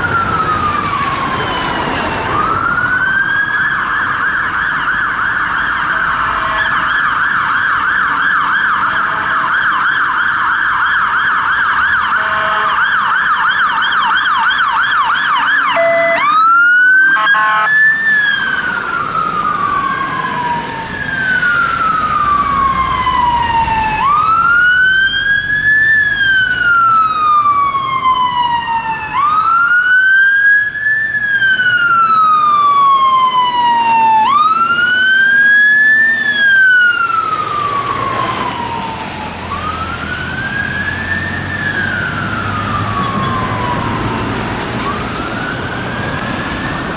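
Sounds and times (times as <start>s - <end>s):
fire engine sirens: 0.0s - 46.9s.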